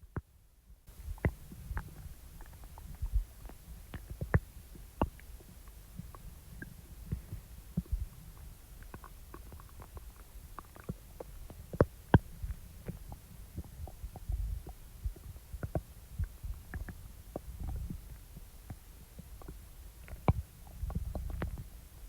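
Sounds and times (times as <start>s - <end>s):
stomach rumbling and gurgling: 0.9s - 22.0s.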